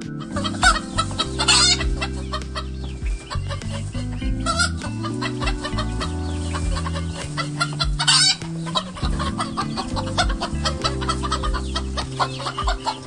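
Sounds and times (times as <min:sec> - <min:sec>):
background music: 0:00.0 - 0:13.0
chickens clucking: 0:00.1 - 0:13.0.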